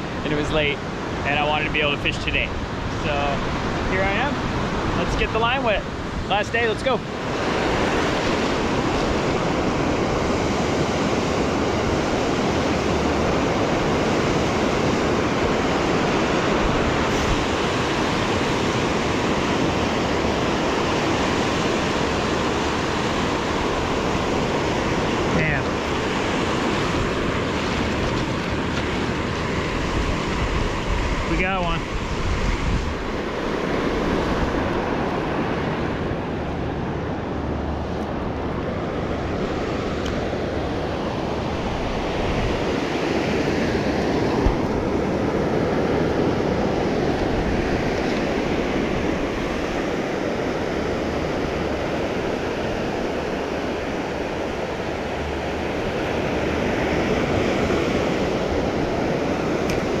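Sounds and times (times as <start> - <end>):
ocean surf breaking: 0.0 - 60.0
wind on microphone: 0.0 - 60.0.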